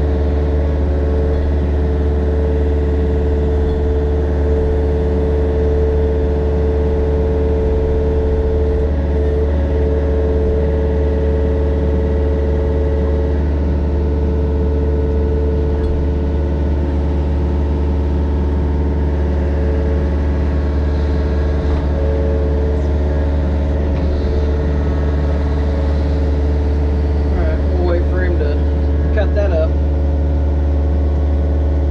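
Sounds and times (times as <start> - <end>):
diesel engine humming: 0.0 - 31.9.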